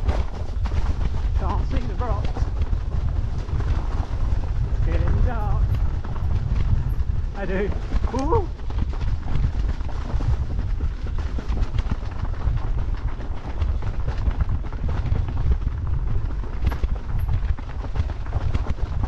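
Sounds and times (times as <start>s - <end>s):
bike clattering over rocky trail: 0.0s - 19.0s
wind buffeting microphone: 0.0s - 19.0s.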